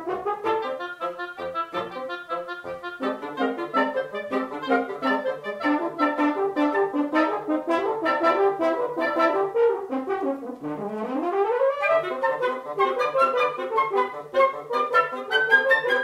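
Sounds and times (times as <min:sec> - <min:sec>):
bassoon: 0:00.0 - 0:16.0
clarinet: 0:00.0 - 0:16.0
flute: 0:00.0 - 0:16.0
french horn: 0:00.0 - 0:16.0
oboe: 0:00.0 - 0:16.0.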